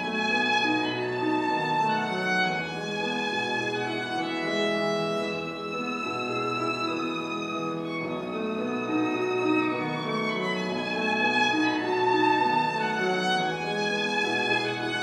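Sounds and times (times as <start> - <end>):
piano accompaniment: 0.0 - 15.0
violin melody: 0.0 - 15.0.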